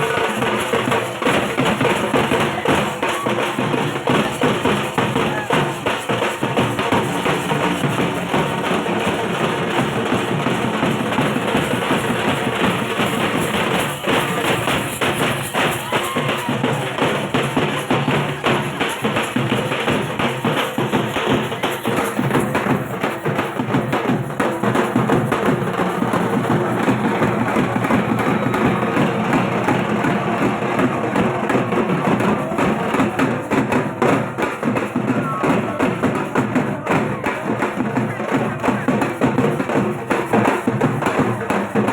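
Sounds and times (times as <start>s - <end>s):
barrel drum played rapidly: 0.0s - 41.9s.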